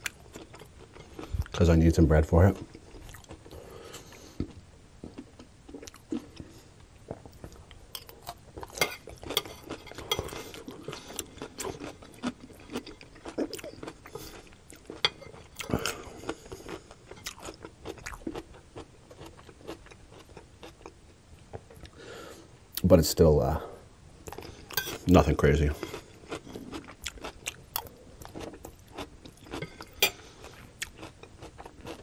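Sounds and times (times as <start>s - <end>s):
chewing crunchy vegetables: 0.0s - 22.0s, 24.2s - 32.0s.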